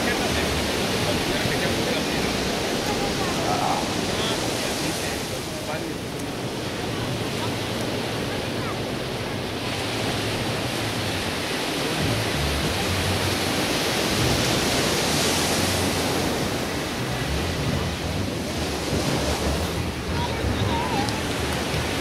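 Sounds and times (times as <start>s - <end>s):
waves breaking on beach: 0.0s - 22.0s
wind buffeting microphone: 0.0s - 22.0s.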